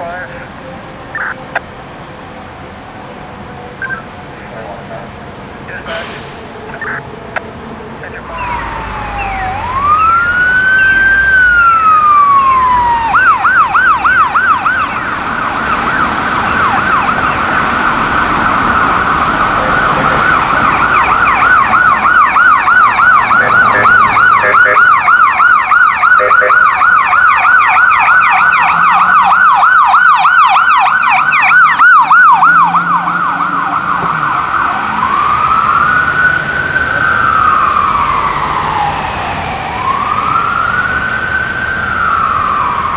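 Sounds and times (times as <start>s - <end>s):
higher siren yelp: 0.0s - 1.7s, 3.2s - 5.1s, 5.7s - 42.9s
siren yelping: 0.0s - 1.8s, 3.3s - 42.9s
siren wailing: 0.0s - 42.9s.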